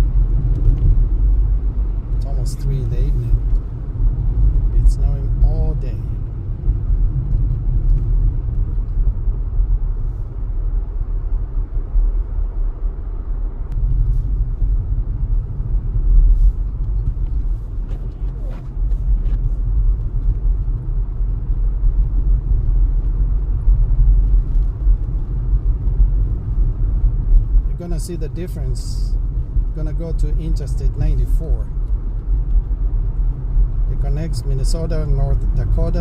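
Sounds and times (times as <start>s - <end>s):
engine and road noise rumble: 0.0s - 36.0s.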